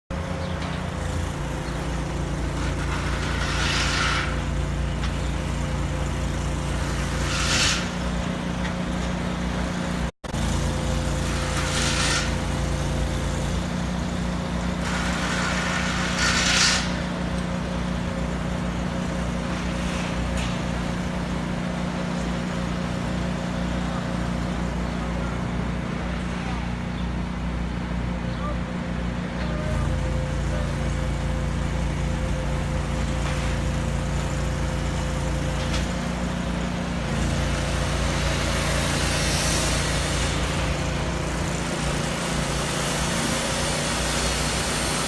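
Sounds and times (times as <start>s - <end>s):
engine droning: 0.1s - 45.0s.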